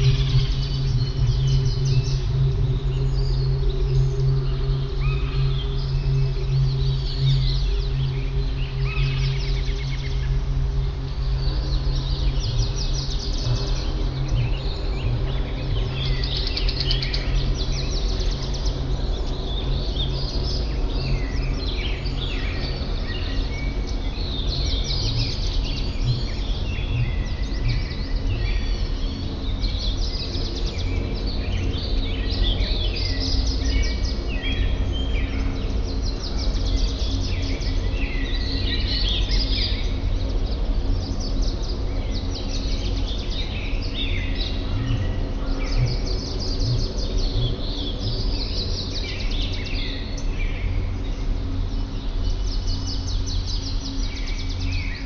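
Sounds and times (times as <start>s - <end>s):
songbirds chirping: 0.0s - 55.0s
steady low hum: 0.0s - 55.0s.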